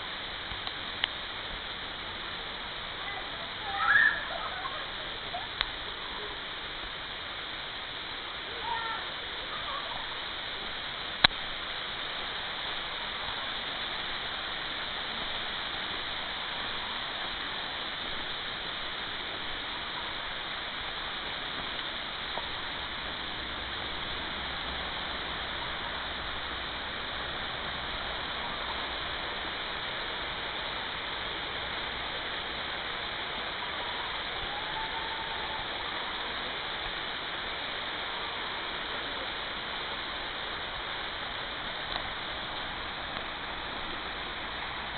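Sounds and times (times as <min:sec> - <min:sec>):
rushing stream water: 0:00.0 - 0:44.9.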